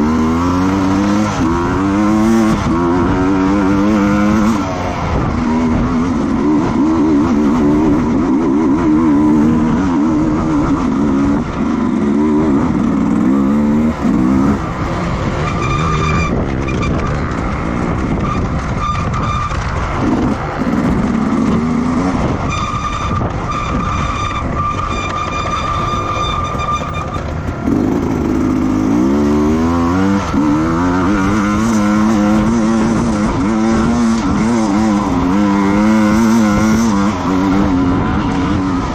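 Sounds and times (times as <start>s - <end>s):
racing motorcycle engines revving: 0.0s - 38.9s.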